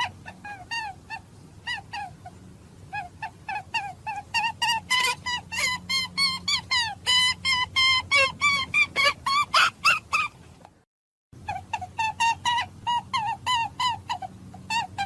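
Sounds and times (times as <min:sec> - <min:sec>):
chirping animal calls: 0:00.0 - 0:10.6, 0:11.4 - 0:15.0.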